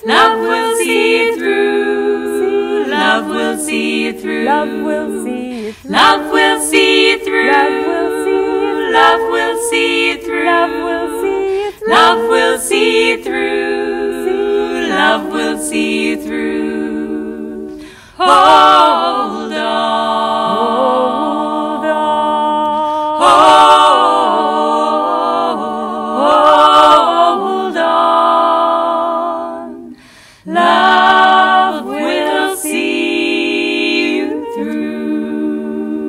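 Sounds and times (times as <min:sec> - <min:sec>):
woman singing a cappella harmony: 0:00.0 - 0:36.0.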